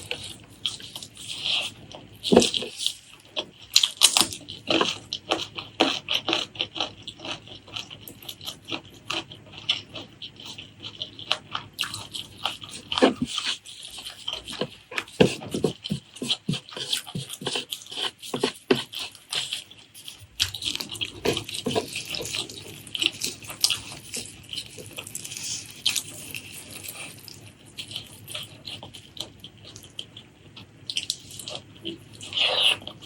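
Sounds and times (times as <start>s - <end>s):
chewing and lip-smacking: 0.0s - 33.0s.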